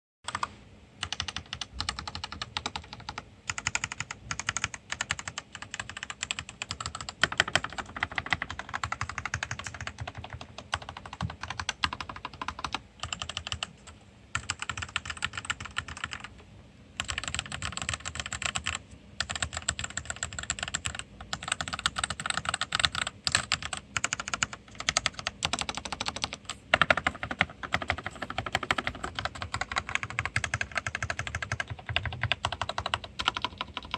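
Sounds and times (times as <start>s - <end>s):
mechanical keyboard typing: 0.3s - 16.3s, 17.0s - 33.9s.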